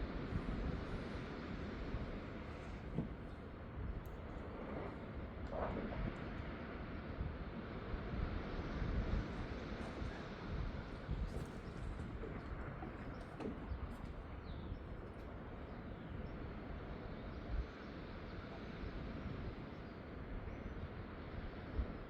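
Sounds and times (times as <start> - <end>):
distant surf: 0.0 - 22.0
wind: 0.0 - 22.0
wind rumble on microphone: 0.0 - 22.0.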